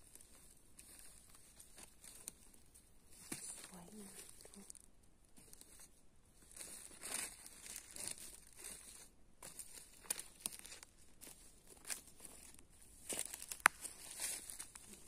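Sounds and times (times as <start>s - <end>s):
footsteps through dry leaves: 0.0s - 4.8s, 5.4s - 15.0s.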